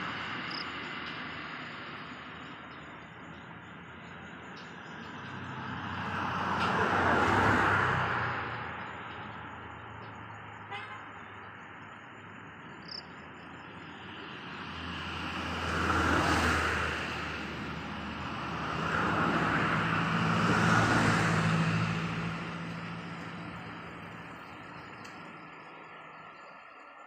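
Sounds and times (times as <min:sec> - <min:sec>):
road vehicles passing: 0:00.0 - 0:27.0.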